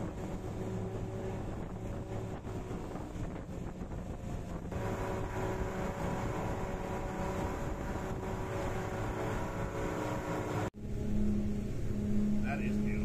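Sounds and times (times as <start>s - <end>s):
boat engine running: 0.0s - 13.0s
water rushing: 0.0s - 13.0s
wind: 0.0s - 13.0s.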